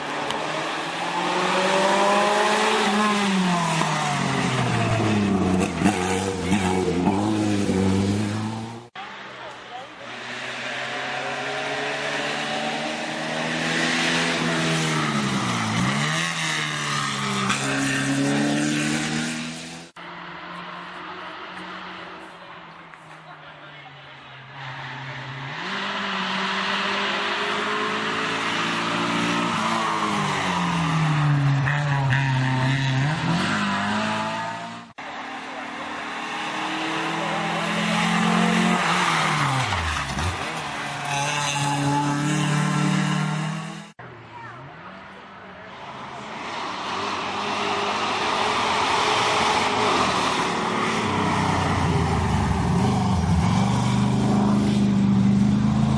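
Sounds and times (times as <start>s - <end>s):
racing car engine under power: 0.0s - 44.0s, 45.0s - 55.9s.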